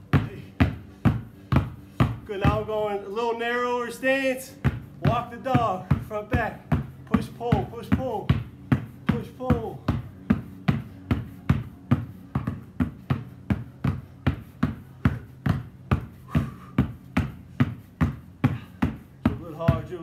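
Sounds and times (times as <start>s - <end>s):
basketballs dribbled on concrete: 0.0s - 3.1s, 4.3s - 20.0s.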